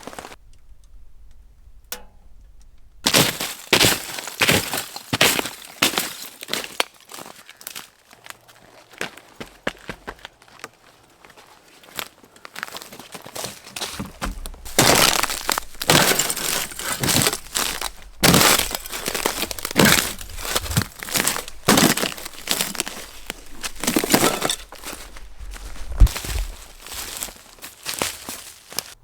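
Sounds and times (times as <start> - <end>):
footsteps crunching dry leaves: 0.0 - 0.4, 3.1 - 29.0.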